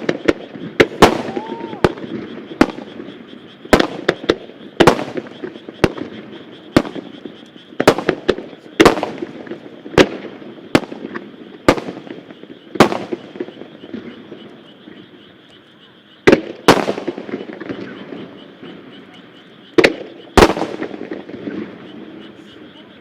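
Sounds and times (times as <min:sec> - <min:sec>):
fireworks booming: 0:00.0 - 0:23.0.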